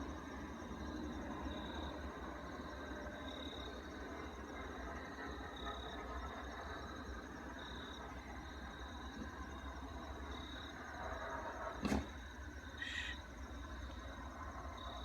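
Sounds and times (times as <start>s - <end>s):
insect chirp: 0.0s - 15.0s
insects trilling: 0.0s - 15.0s.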